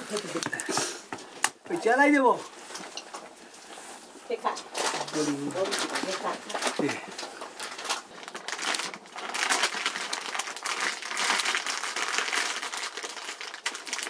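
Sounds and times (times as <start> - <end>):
crinkling and rustling: 0.0 - 14.0.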